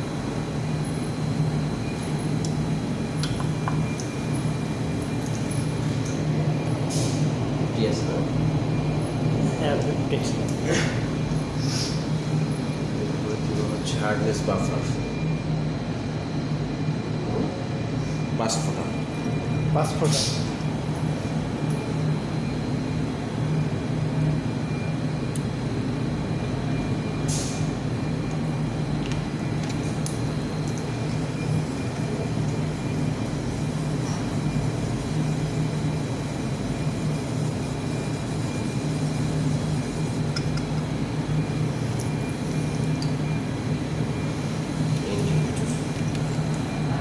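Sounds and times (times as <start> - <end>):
machine hum with high whine: 0.0 - 47.0.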